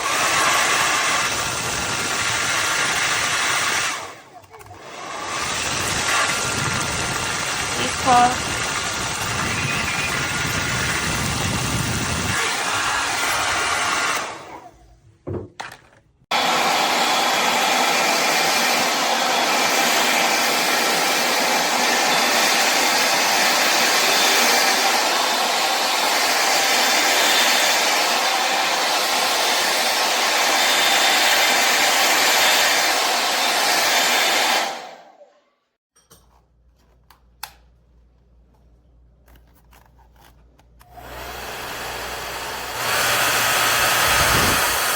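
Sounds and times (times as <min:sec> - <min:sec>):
hair dryer running: 0:00.0 - 0:14.7, 0:16.3 - 0:35.3, 0:40.8 - 0:44.9.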